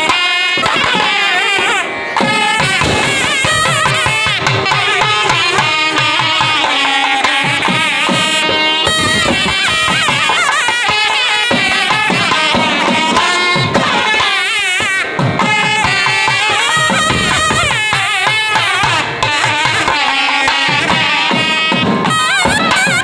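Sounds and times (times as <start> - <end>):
double-reed pipes playing melody: 0.0 - 23.0.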